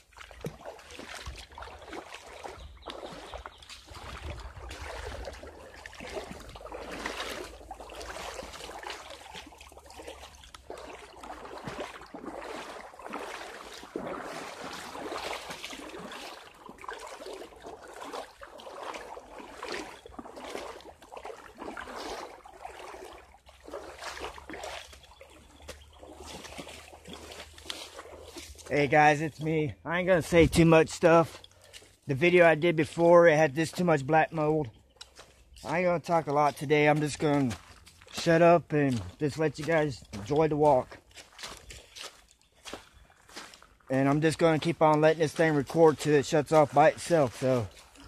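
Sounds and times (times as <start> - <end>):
footsteps sloshing through creek: 0.0 - 48.0
water trickling and splashing: 0.0 - 48.0.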